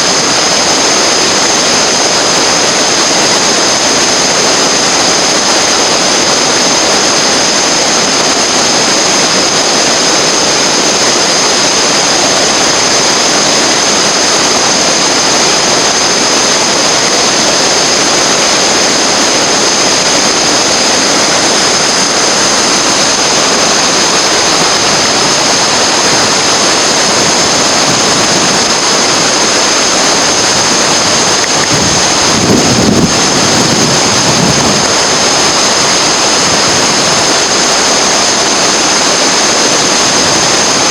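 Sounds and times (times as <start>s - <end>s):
whitewater rushing: 0.0s - 40.9s.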